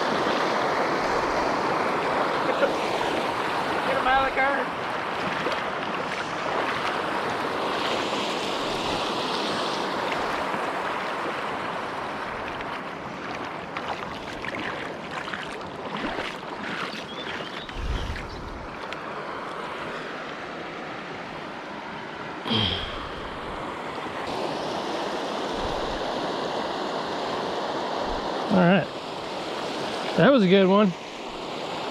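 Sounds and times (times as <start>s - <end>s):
creek water flowing: 0.0s - 31.9s.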